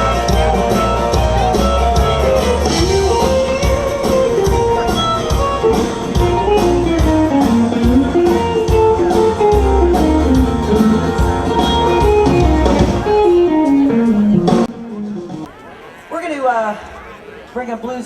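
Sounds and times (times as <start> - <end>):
drum beat: 0.0 - 15.6
guitar melody: 0.0 - 15.8
live band playing instrumental: 0.0 - 16.0.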